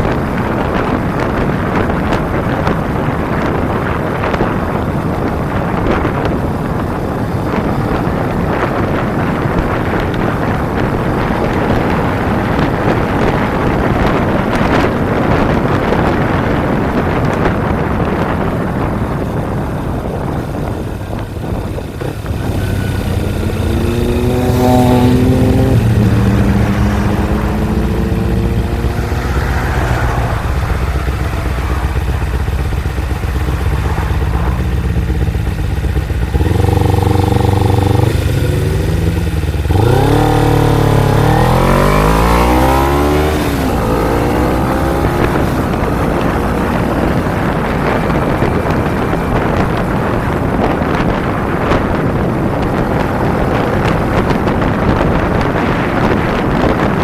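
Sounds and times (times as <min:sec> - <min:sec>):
motorcycle engine accelerating: 0:00.0 - 0:57.0
wind buffeting microphone: 0:00.0 - 0:57.0.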